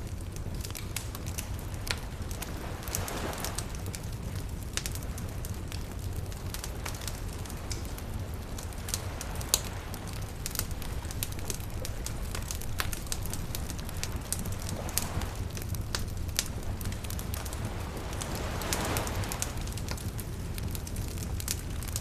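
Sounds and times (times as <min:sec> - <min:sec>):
campfire crackling and popping: 0:00.0 - 0:22.0
low rumble: 0:00.0 - 0:22.0.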